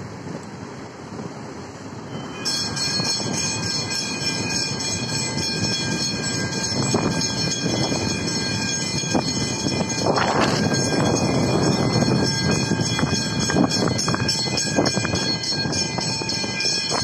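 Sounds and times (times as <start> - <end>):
cars rumbling over crossing: 0.0 - 17.0
level crossing warning bells ringing: 2.0 - 17.0.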